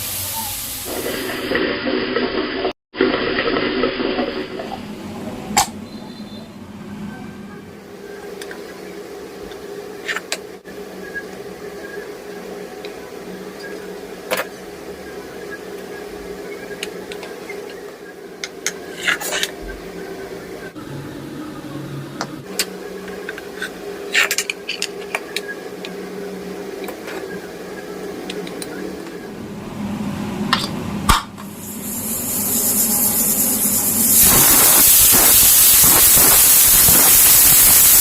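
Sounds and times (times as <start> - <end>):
low mechanical hum: 4.2 - 34.8.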